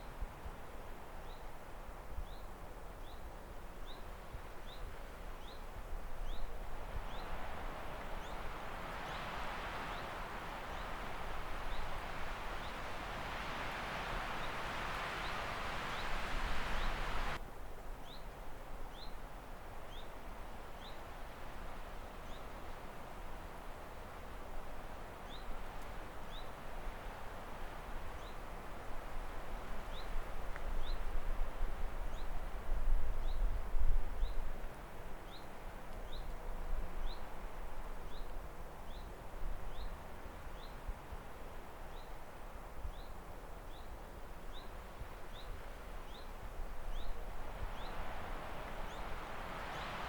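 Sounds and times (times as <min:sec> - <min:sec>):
outdoor ambience hiss: 0:00.0 - 0:50.0.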